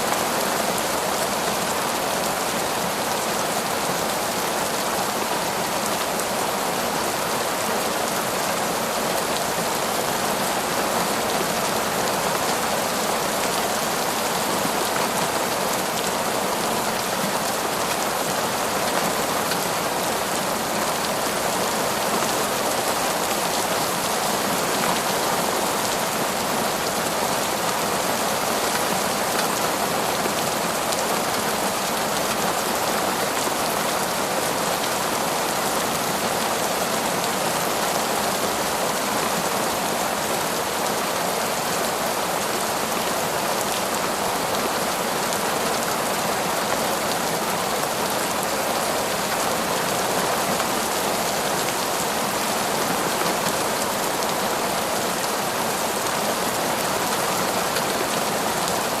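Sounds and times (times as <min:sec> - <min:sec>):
heavy rain in forest: 0:00.0 - 0:59.0.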